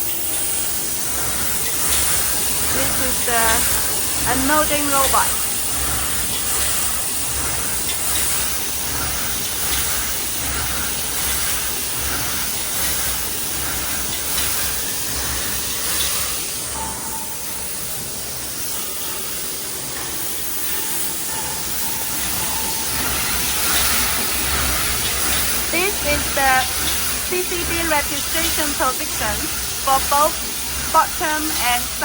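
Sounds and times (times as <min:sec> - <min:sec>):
printing machine hissing and humming: 0:00.0 - 0:32.0
regular machine pulse: 0:00.0 - 0:32.0.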